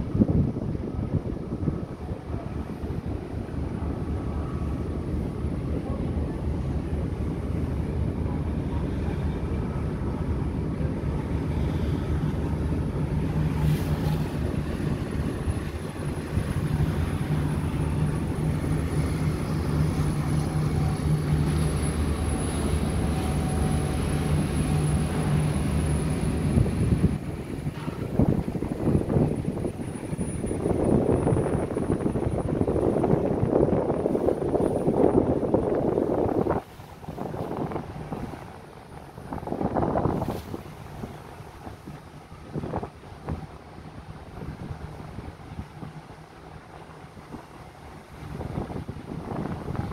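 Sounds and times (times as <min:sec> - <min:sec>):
ferry engine droning: 0:00.0 - 0:49.9
wind and water rushing: 0:00.0 - 0:49.9.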